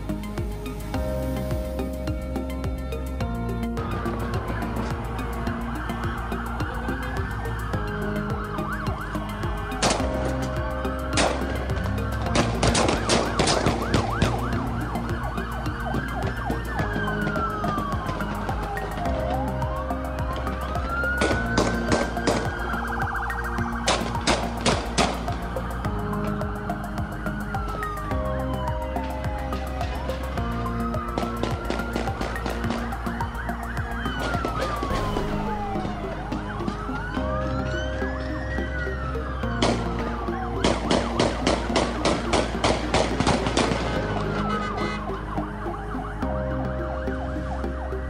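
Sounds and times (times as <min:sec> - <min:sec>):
music playing: 0:00.0 - 0:48.0
police siren yelp and wail: 0:00.0 - 0:48.0.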